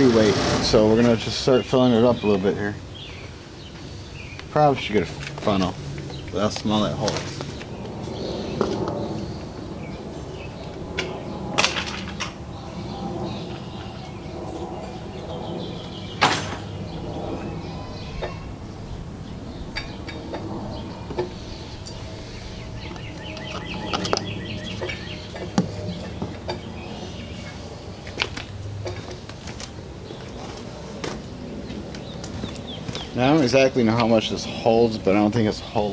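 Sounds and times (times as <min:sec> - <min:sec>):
birds chirping: 0:00.0 - 0:35.9
low outdoor background: 0:00.0 - 0:35.9.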